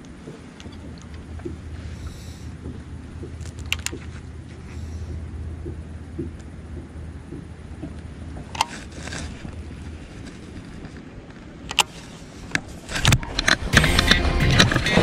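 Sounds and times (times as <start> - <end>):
fish splashing and thrashing: 0.0 - 13.7
low hum: 0.0 - 15.0.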